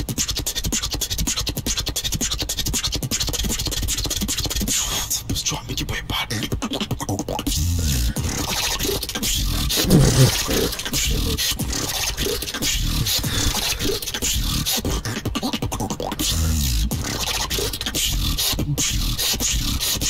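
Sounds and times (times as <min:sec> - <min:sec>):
beatboxing: 0:00.0 - 0:20.0.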